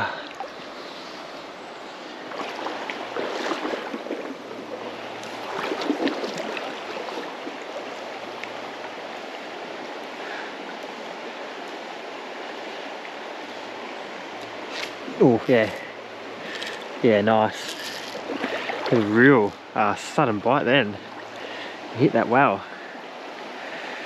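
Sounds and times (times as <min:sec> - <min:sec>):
creek water running: 0:00.0 - 0:24.0
water splashing and sloshing: 0:00.0 - 0:24.0.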